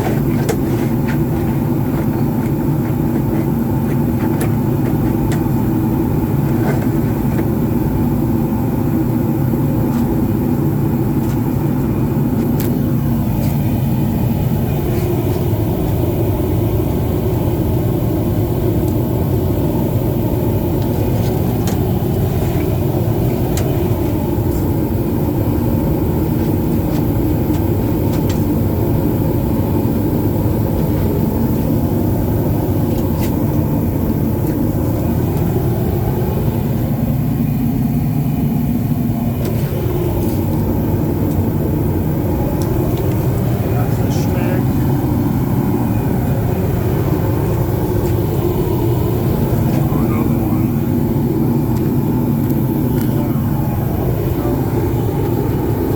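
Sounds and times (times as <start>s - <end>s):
machine humming: 0.0s - 55.9s.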